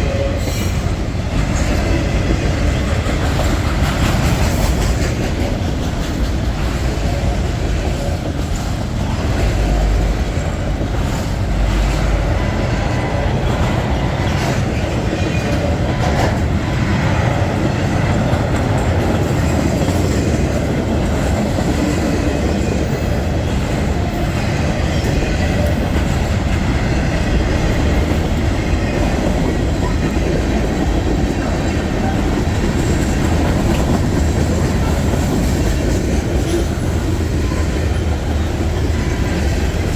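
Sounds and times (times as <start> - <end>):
freight train wheels rumbling: 0.0 - 39.9
wheels clicking over rail joints: 0.4 - 39.9.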